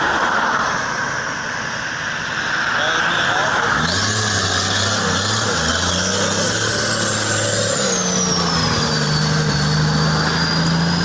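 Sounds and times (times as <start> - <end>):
thin high whine: 0.0 - 11.0
truck engine running: 0.8 - 11.0.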